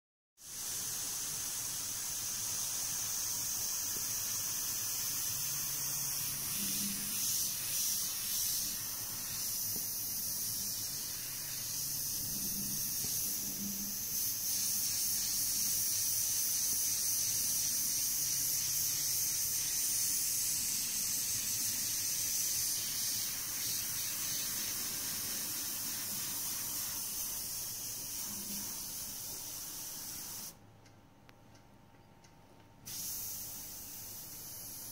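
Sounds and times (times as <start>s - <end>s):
airbrush hissing: 0.4s - 30.6s, 32.9s - 34.9s.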